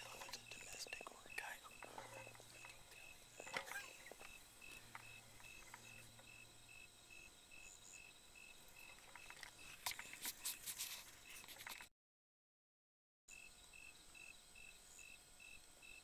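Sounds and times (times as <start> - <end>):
cricket chirping: 0.0 - 11.8, 13.3 - 16.0.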